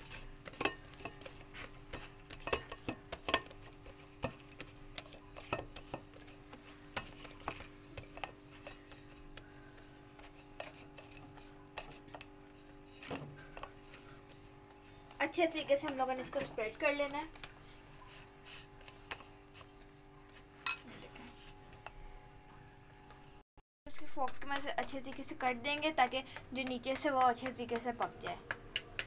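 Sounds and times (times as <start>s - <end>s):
hands patting dough on metal pan: 0.0s - 20.7s, 23.9s - 29.0s.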